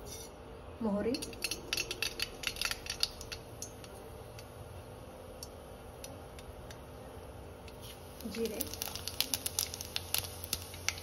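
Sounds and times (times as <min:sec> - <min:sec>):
seeds popping in hot oil: 0:01.1 - 0:11.0.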